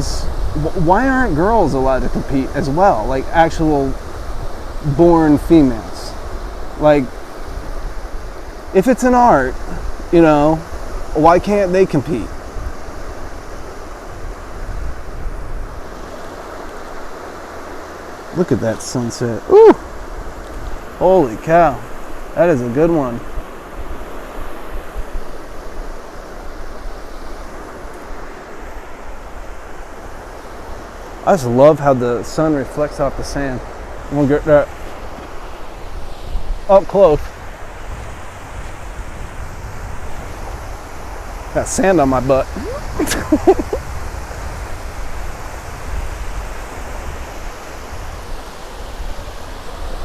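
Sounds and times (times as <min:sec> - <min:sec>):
surf washing on shore: 0:00.0 - 0:50.0
wind buffeting microphone: 0:00.0 - 0:50.0.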